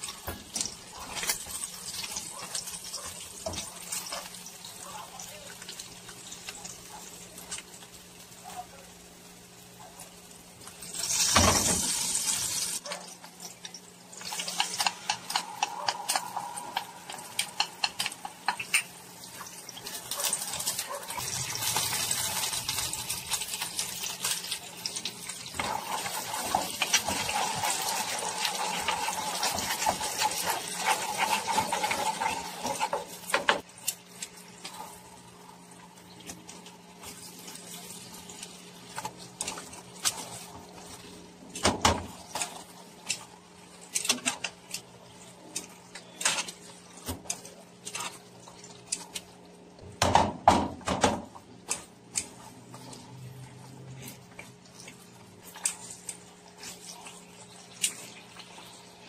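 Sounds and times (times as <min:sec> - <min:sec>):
meat sizzling in a frying pan: 0:00.0 - 0:49.6, 0:51.0 - 0:59.0.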